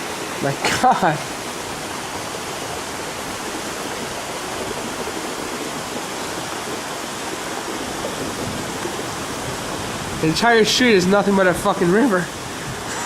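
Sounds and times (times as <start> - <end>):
floodwater running down street: 0.0 - 13.0
heavy rain downpour: 0.0 - 13.0.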